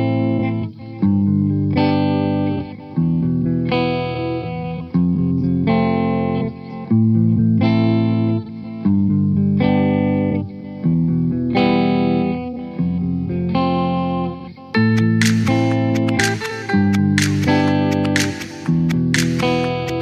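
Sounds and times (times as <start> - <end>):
distorted guitar strumming chords: 0.0 - 20.0.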